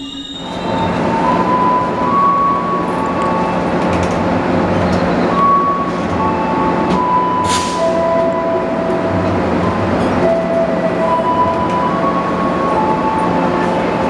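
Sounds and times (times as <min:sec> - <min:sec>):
train running on rails: 0:00.0 - 0:14.0.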